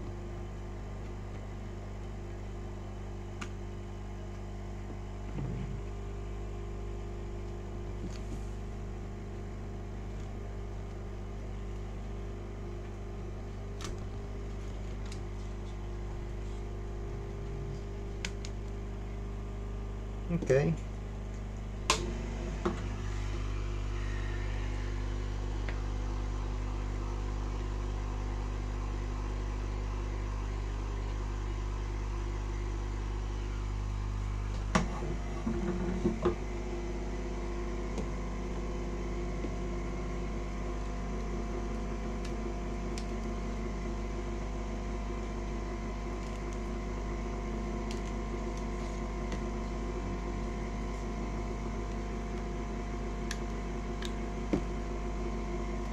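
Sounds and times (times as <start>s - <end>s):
appliance electric hum: 0.0s - 55.9s.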